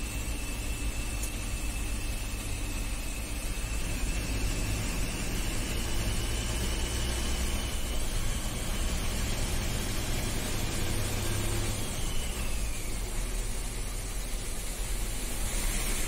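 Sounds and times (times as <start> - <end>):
engine drone and road noise: 0.0 - 16.0
faint high whine: 0.0 - 16.0.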